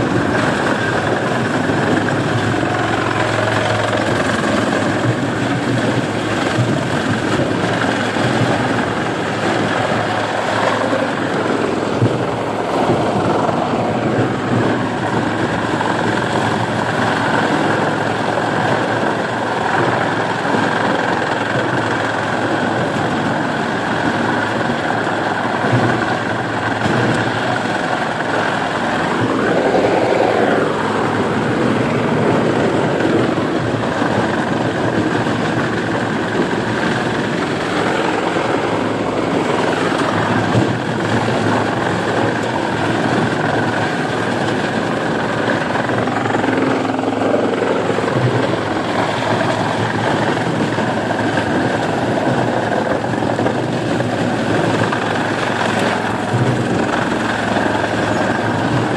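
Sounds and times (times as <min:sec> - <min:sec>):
wood chipper running under load: 0:00.0 - 0:58.9.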